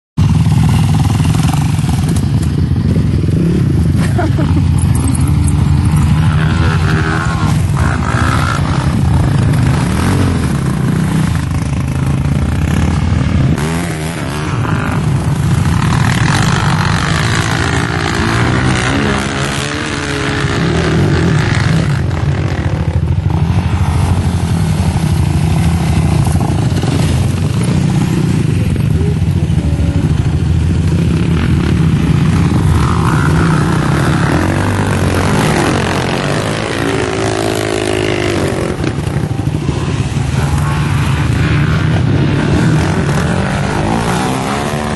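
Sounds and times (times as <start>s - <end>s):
quad bike engines revving: 0.2s - 44.9s.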